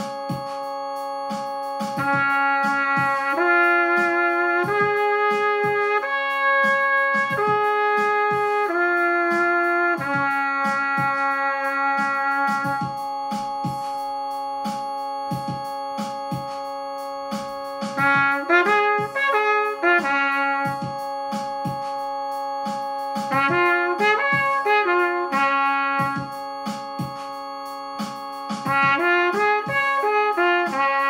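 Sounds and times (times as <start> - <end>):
keyboard backing with steady beat: 0.0 - 31.0
trumpet playing arpeggio: 1.7 - 31.0.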